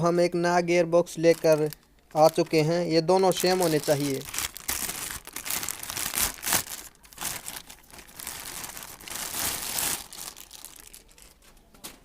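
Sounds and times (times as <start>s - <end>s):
packaging crinkling and rustling: 1.1s - 12.0s.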